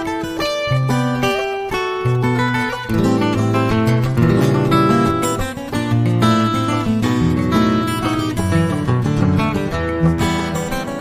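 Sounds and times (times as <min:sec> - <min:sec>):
acoustic guitar piece: 0:00.0 - 0:11.0.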